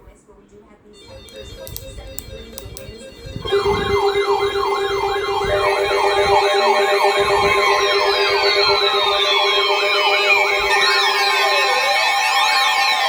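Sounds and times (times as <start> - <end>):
electronic siren yelping: 1.0 - 13.0
tone gliding down in pitch: 1.0 - 13.0.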